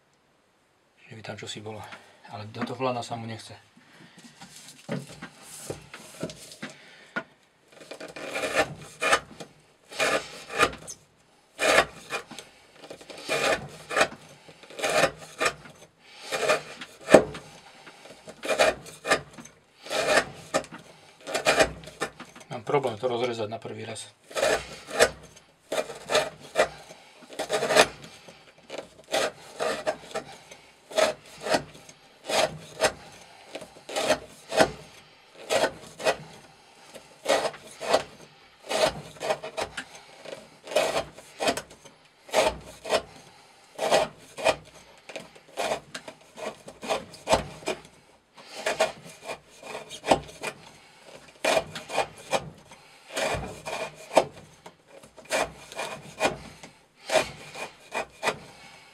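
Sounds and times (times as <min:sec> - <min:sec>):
knife sawing through rope: 0:04.1 - 0:07.0, 0:07.7 - 0:23.2, 0:24.0 - 0:58.9.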